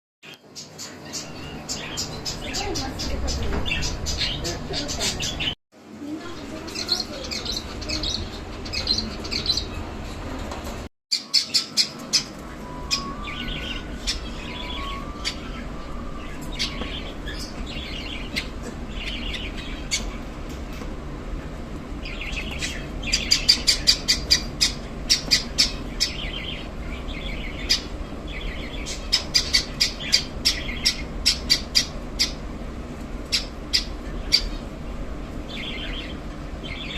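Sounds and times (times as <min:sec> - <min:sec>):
small birds chirping: 0:00.2 - 0:05.6, 0:06.2 - 0:10.0, 0:11.1 - 0:20.8, 0:21.9 - 0:36.9.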